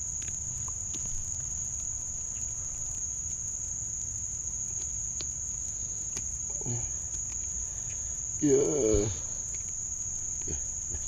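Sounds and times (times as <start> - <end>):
shrill insect chorus: 0.0 - 11.0.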